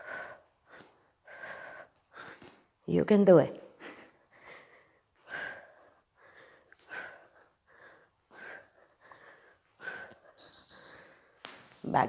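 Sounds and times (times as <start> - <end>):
woman breathing hard: 0.0 - 2.8, 3.7 - 11.5.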